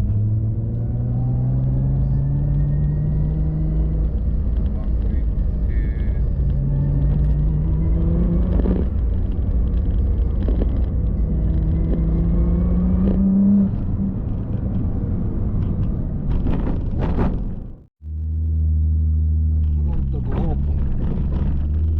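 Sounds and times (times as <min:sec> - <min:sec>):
car engine accelerating: 0:00.0 - 0:21.9
road rumble: 0:00.0 - 0:21.9.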